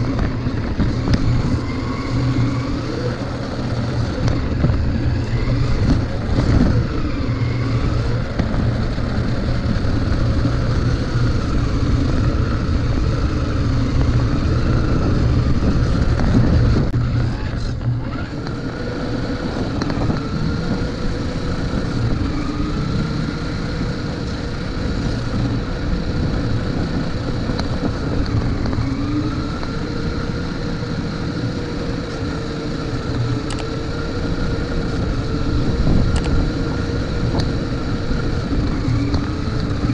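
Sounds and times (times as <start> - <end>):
electric motor and gears whining: 0.0 - 39.9
tyres rumbling on asphalt: 0.0 - 39.9.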